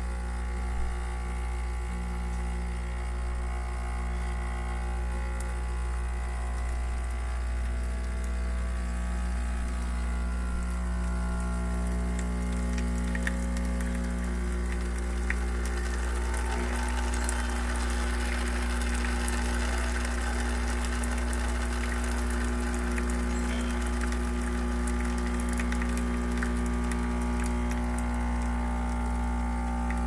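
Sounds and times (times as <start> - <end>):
espresso machine pump humming: 0.0 - 30.0.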